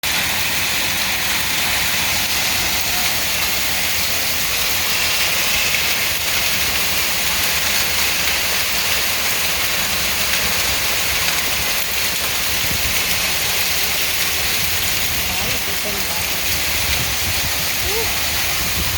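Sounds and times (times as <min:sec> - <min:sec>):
heavy rain and hail: 0:00.0 - 0:18.9.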